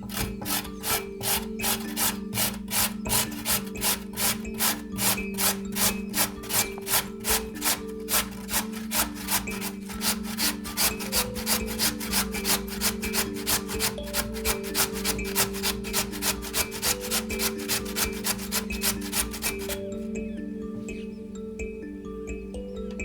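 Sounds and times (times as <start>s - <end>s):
potato being scraped: 0.0s - 19.8s
background music: 0.0s - 23.0s.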